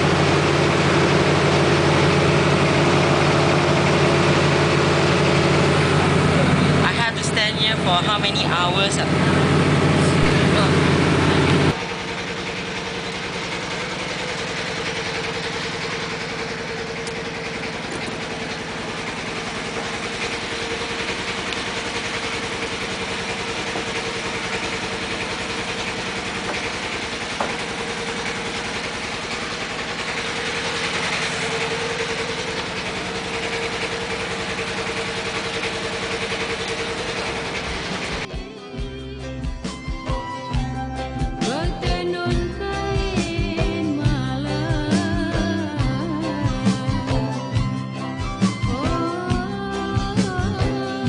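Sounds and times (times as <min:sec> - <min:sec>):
boat engine droning: 0:00.0 - 0:51.0.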